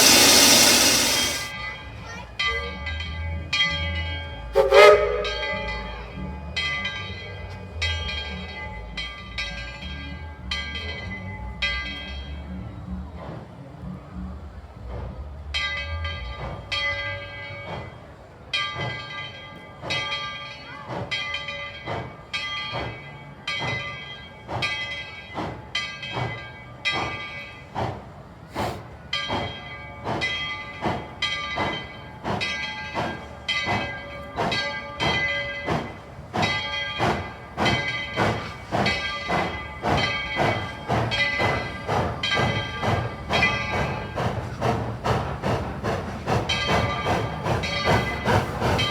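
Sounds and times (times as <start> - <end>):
locomotive bell ringing: 0.0 - 12.6, 15.6 - 27.8, 29.1 - 48.9
train running: 0.0 - 48.9.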